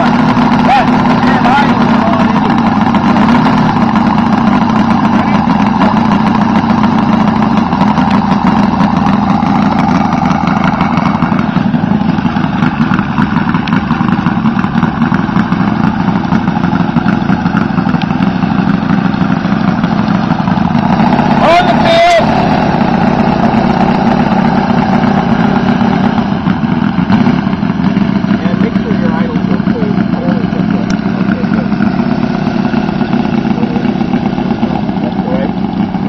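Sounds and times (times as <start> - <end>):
model aircraft engine idling: 0.0 - 36.0.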